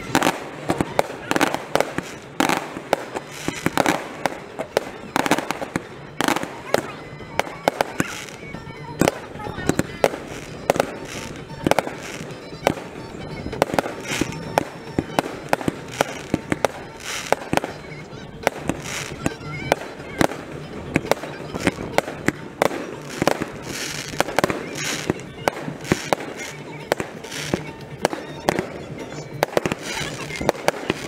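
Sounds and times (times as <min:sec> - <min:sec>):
fireworks bangs: 0:00.0 - 0:31.0
fireworks crackling hiss: 0:00.0 - 0:31.0.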